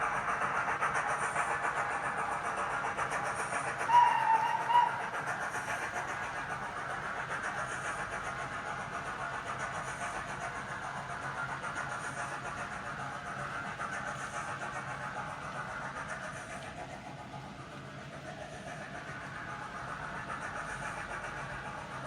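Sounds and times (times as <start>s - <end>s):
model train running rumble: 0.0s - 22.0s.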